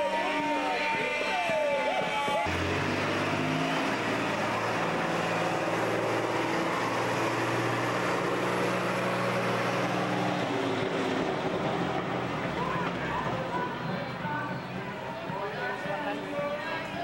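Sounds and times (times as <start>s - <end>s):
vehicle engines droning: 0.0s - 17.0s.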